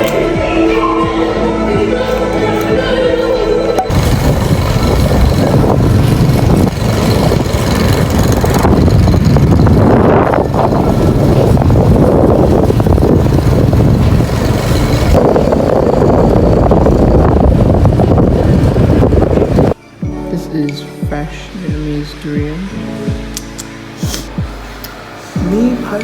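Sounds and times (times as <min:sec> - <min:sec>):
loud street traffic: 0:00.0 - 0:20.0, 0:22.0 - 0:26.0.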